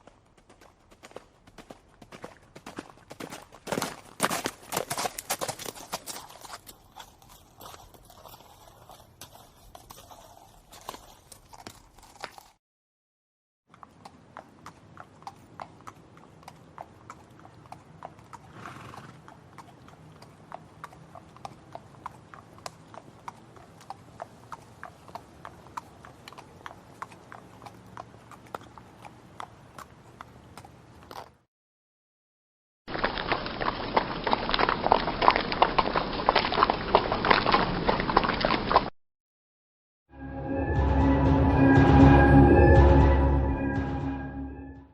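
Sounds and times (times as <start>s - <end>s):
horse hooves clip-clopping: 0.0s - 12.6s, 13.7s - 31.4s, 32.9s - 38.9s.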